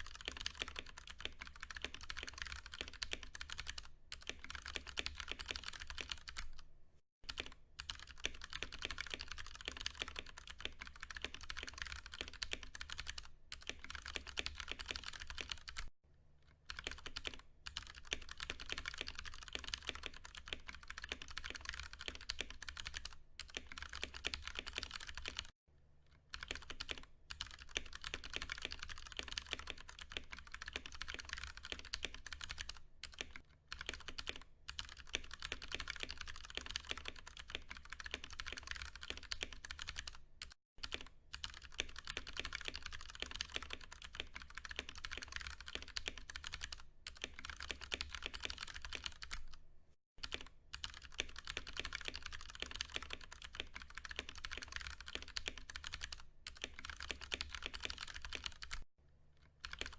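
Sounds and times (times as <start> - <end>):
mechanical keyboard typing: 0.0 - 6.6, 7.3 - 15.9, 16.7 - 25.5, 26.3 - 49.6, 50.2 - 58.9, 59.6 - 59.9.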